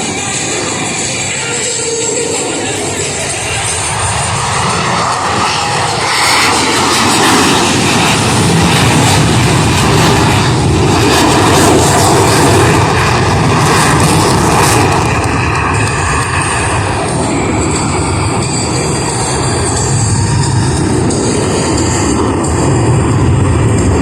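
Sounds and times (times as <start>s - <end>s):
jet engine noise: 0.0s - 24.0s.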